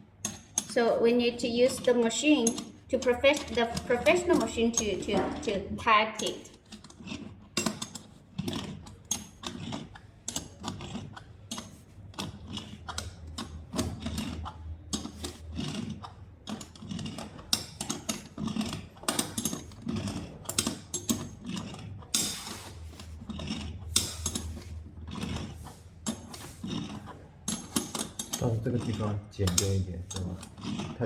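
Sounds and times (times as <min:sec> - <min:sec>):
irregular clicks and knocks: 0:01.6 - 0:31.0.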